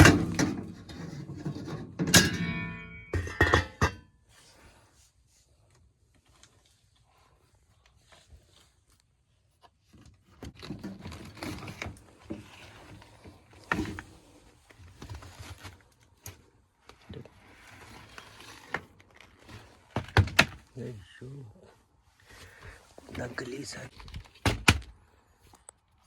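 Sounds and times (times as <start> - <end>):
air filter rustling and scraping: 0.0 - 25.7.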